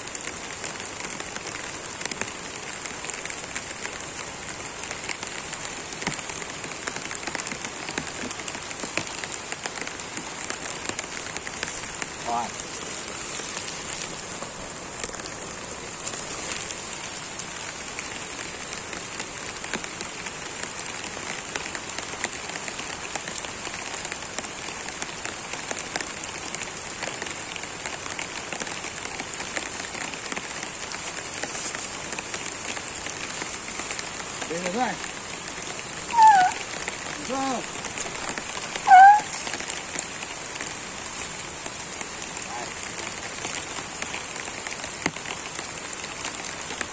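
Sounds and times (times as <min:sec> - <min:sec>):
rain falling on vegetation: 0:00.0 - 0:46.9.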